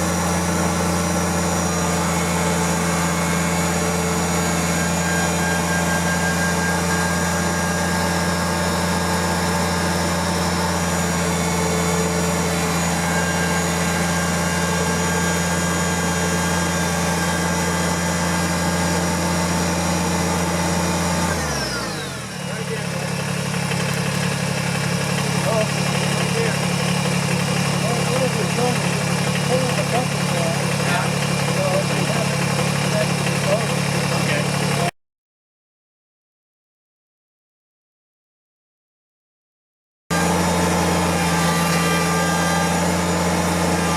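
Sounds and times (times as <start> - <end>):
tractor diesel engine running: 0.0 - 34.9, 40.1 - 43.9.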